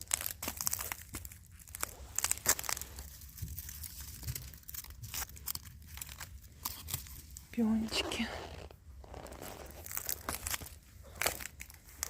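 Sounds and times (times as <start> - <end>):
crunching and crackling: 0.0 - 12.0.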